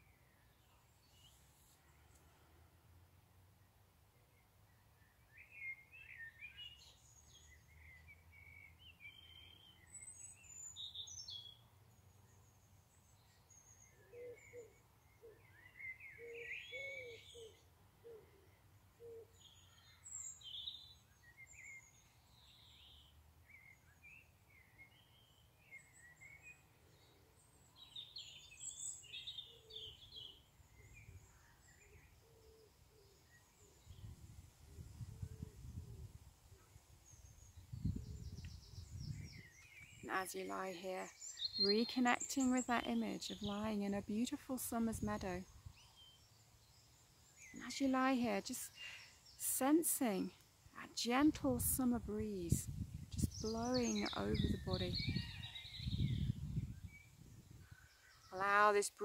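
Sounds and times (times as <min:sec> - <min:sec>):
birds chirping and trilling: 0:05.3 - 0:34.2, 0:36.5 - 0:59.0.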